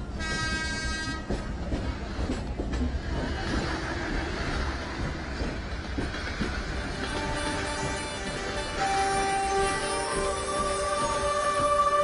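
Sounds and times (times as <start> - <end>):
train rumbling over bridge: 0.0 - 12.0.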